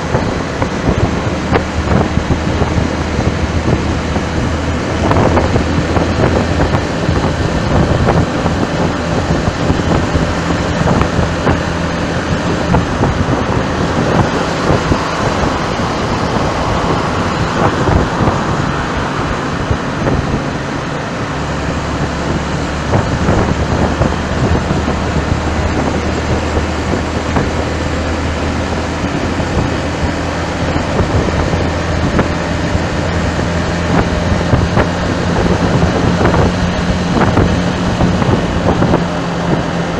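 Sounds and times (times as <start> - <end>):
road traffic: 0.0 - 39.9
vehicle engine hum: 0.0 - 39.9
wind noise on microphone: 0.0 - 39.9.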